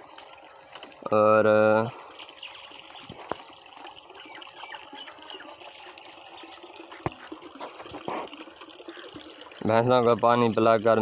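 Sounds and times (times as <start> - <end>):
water sloshing in a trough: 0.0 - 11.0.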